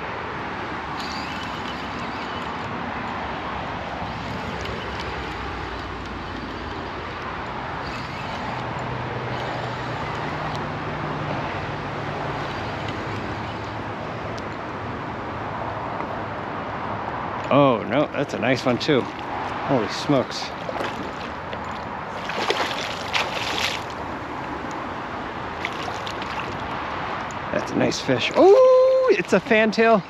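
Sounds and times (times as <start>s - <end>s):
highway traffic roar: 0.0s - 30.0s.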